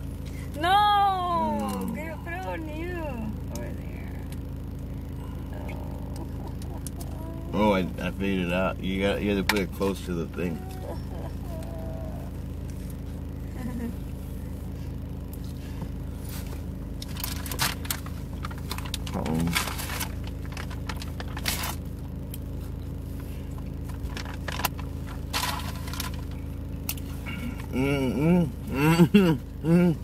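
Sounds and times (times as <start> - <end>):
low car cabin hum: 0.0 - 30.0.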